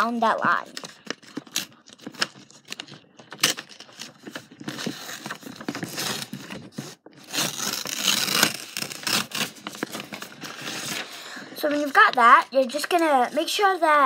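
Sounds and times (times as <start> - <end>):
paper crackling: 0.2 - 14.0
paper ripping: 0.7 - 12.2.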